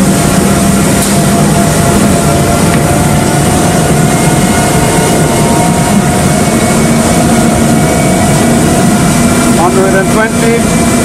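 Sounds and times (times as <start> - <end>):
constant machine whine: 0.0 - 11.0
hydraulic machinery drone: 0.0 - 11.0.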